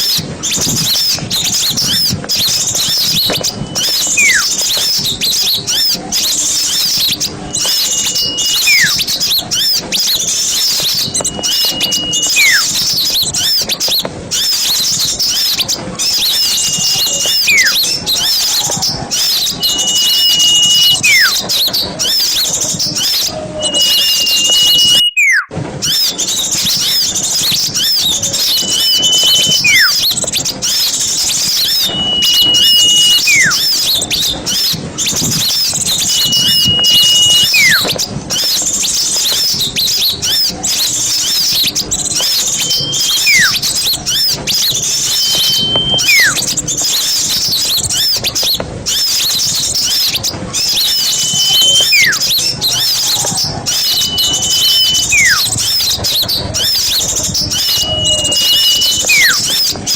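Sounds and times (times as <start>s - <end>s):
songbirds chirping: 0.0s - 59.9s
whistled bird call: 0.0s - 59.9s.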